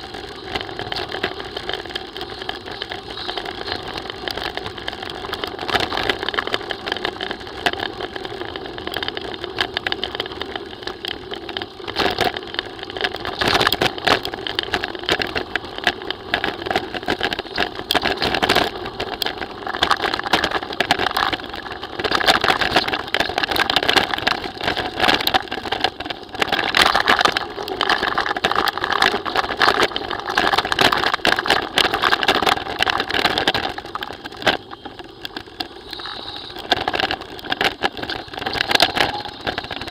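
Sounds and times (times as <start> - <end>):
bike rattling: 0.0 - 39.9
tyres crunching on gravel: 0.0 - 39.9.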